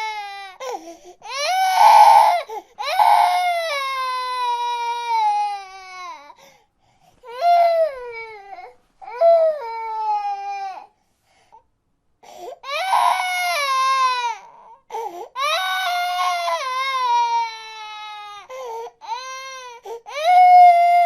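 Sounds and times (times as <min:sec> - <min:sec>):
baby crying: 0:00.0 - 0:06.4, 0:07.3 - 0:10.9, 0:12.6 - 0:21.0.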